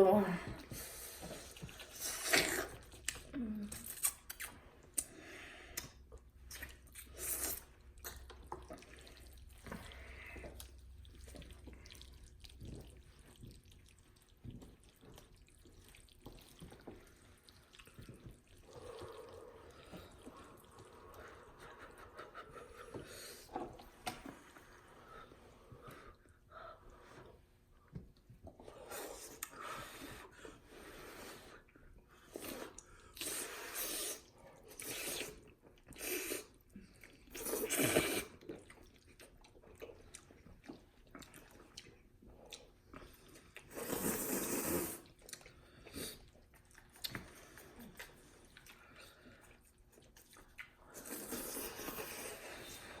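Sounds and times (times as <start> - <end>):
slurping and chewing noodles: 0.0 - 53.0.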